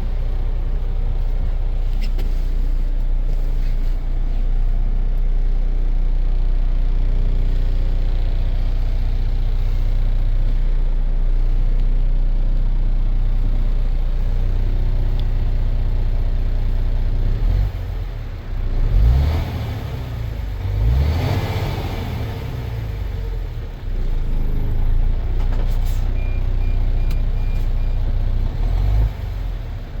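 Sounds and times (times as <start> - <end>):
truck diesel engine idling and revving: 0.0 - 30.0.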